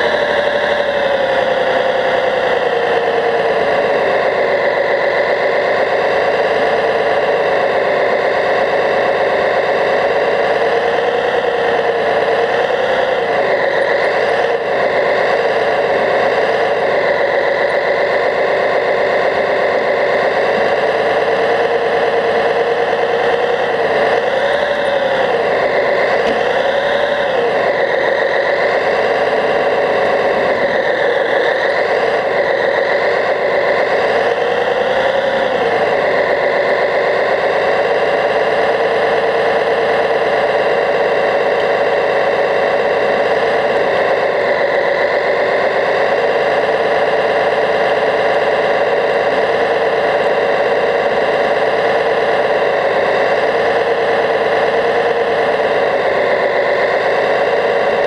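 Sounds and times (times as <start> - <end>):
model bulldozer engine drone: 0.0 - 58.0.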